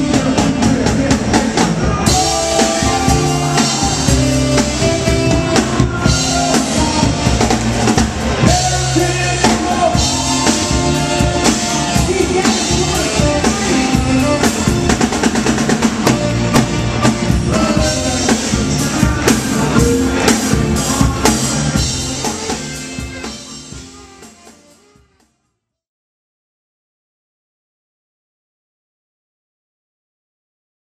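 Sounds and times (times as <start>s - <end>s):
person singing: 0.0s - 25.1s
drum kit beat: 0.0s - 25.2s
rock band music: 0.0s - 25.3s.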